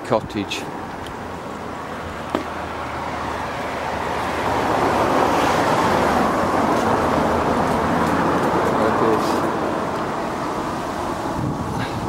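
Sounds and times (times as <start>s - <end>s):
passing car tyre and engine noise: 0.4s - 12.0s.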